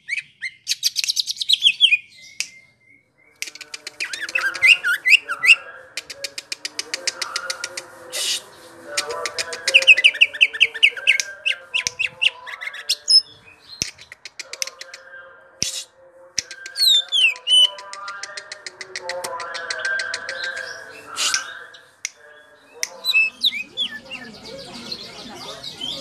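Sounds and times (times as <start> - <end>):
bird singing: 0.0 - 15.8, 16.4 - 26.0.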